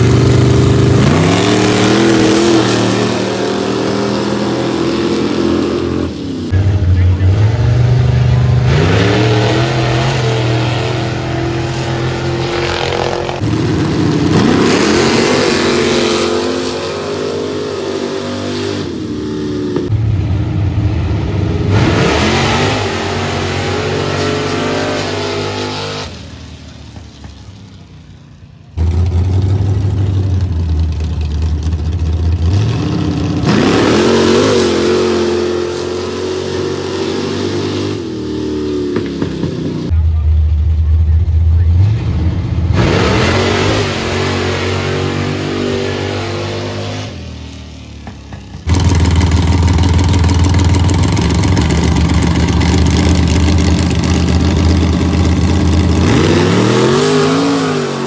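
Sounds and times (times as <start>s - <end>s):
pickup truck engines revving: 0.0s - 58.0s.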